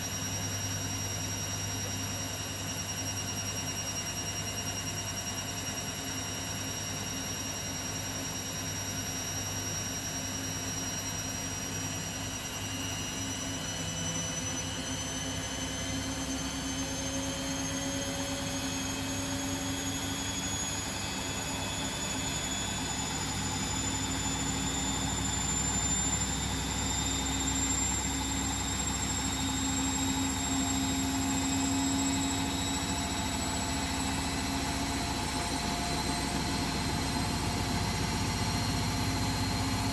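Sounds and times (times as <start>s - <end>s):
washing machine spinning up: 0.0s - 39.9s.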